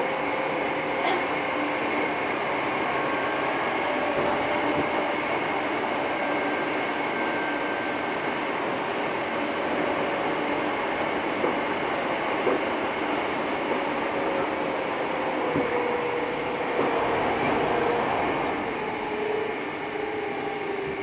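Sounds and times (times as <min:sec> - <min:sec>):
train interior rumble: 0:00.0 - 0:21.0.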